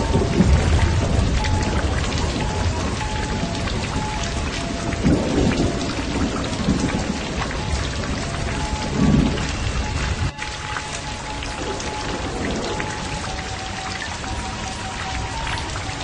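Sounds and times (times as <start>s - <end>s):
heavy rain pouring: 0.0s - 16.0s
thunder rumbling: 0.0s - 16.0s.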